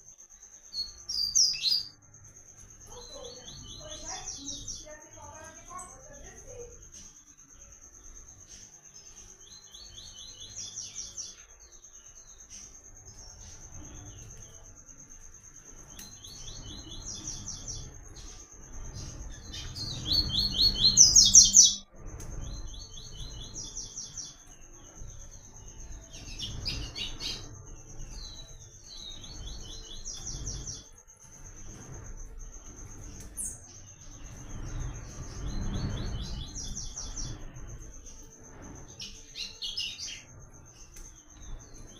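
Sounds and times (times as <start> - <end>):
steady high-pitched buzz: 0.0 - 41.9.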